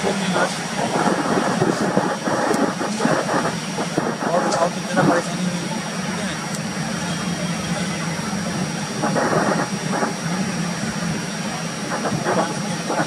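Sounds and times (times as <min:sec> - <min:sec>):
train rattles: 0:00.0 - 0:13.0
train rolling over rails: 0:00.0 - 0:13.0.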